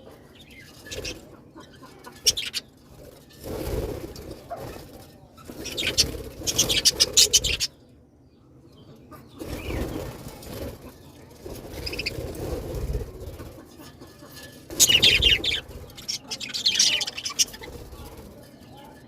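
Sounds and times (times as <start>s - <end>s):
colony of birds calling: 0.0s - 19.0s.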